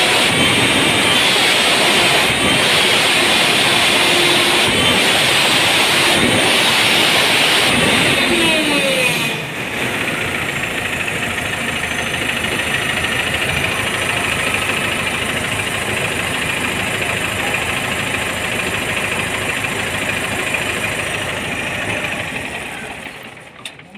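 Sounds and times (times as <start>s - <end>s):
engine idling: 0.0s - 23.9s.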